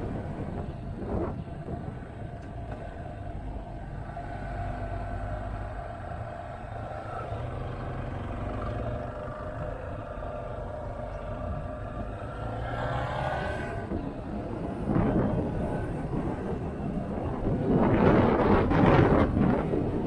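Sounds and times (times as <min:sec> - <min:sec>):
wind rushing over microphone: 0:00.0 - 0:07.4, 0:09.0 - 0:20.0.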